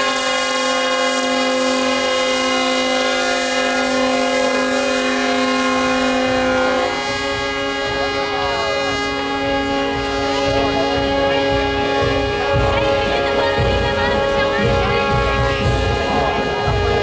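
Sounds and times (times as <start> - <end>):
crowd voices: 0.0 - 17.0
low rumble: 0.0 - 17.0
ship's horn blast: 0.0 - 17.0.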